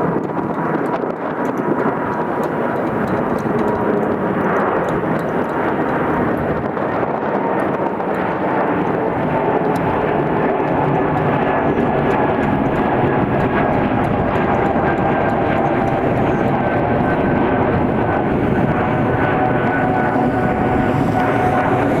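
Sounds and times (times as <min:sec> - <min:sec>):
jet engine roar with whine: 0:00.0 - 0:22.0.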